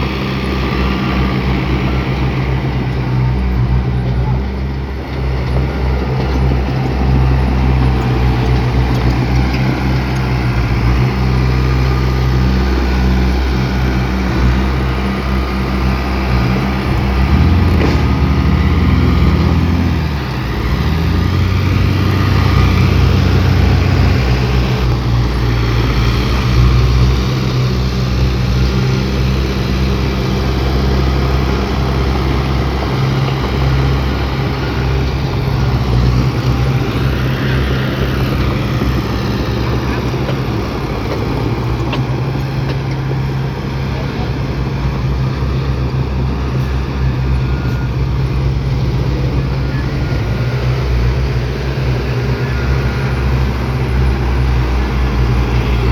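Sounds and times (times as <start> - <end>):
heavy diesel engine drone: 0.0 - 55.9.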